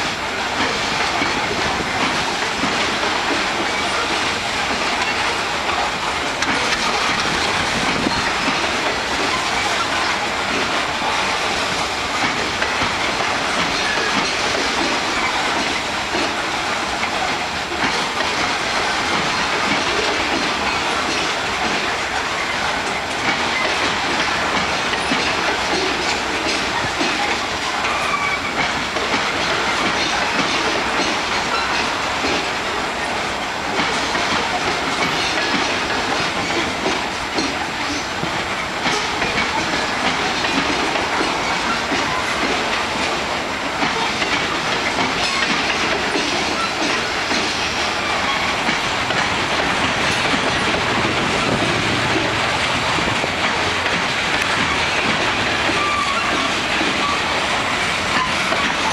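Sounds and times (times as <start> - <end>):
freight train wheels clattering: 0.0 - 58.9
train rumble: 0.0 - 58.9.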